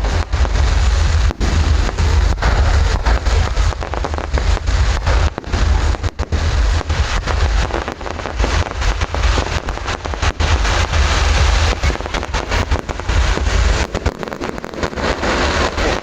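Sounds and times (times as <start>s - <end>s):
firework bangs and crackles: 0.0s - 16.0s
heavy low rumble: 0.0s - 16.0s.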